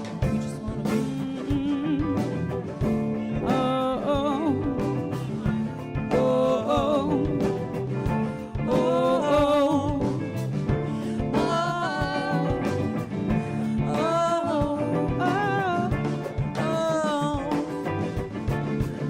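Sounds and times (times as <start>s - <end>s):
bass: 0.0s - 19.0s
person singing: 0.0s - 19.0s
steady drum beat: 0.0s - 19.0s.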